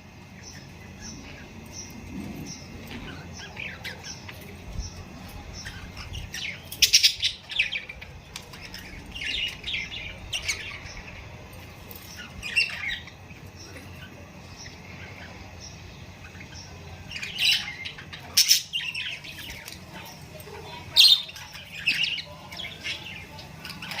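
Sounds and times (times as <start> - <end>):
budgies chattering and squawking: 0.0 - 24.0
low background hum: 0.0 - 24.0.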